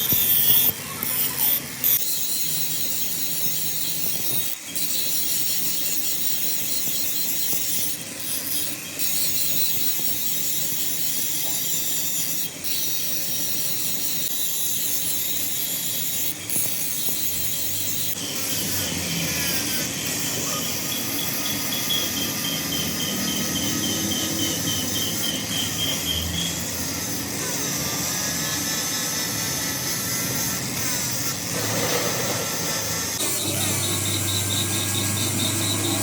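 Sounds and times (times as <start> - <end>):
metal-cutting machine: 0.0 - 36.0
thin whine: 0.0 - 36.0.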